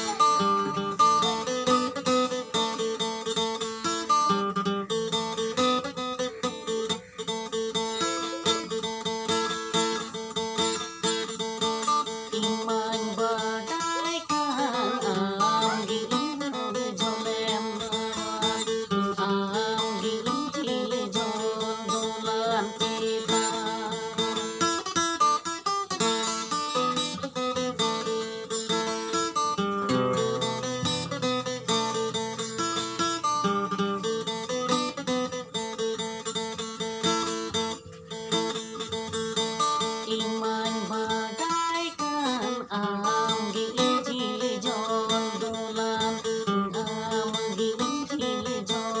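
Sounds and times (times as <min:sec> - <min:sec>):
acoustic guitar strumming chords: 0:00.0 - 0:49.0.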